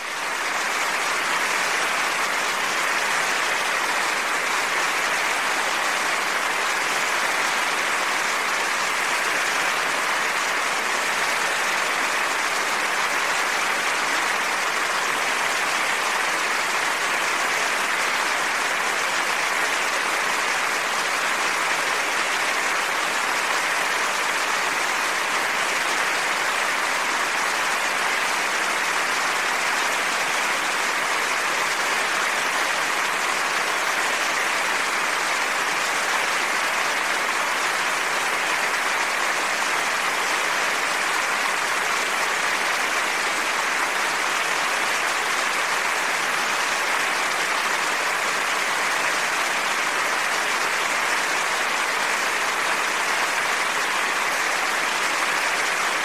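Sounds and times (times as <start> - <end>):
audience applauding: 0.0 - 56.0.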